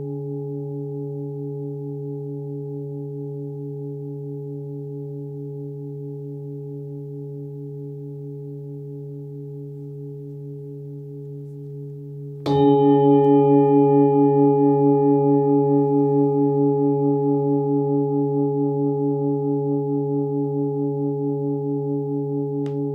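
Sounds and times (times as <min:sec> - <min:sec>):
singing bowl ringing: 0:00.0 - 0:22.9.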